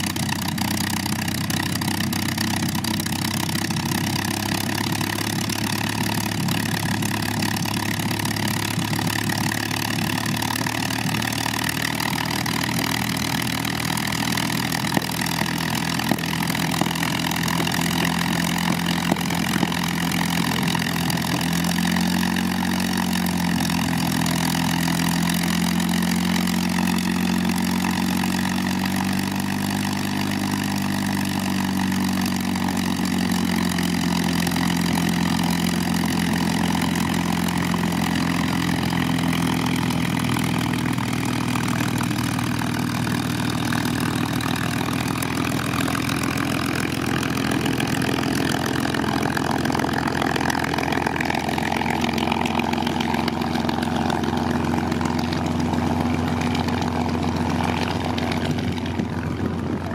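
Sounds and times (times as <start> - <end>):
aircraft piston engine idling: 0.0 - 59.9.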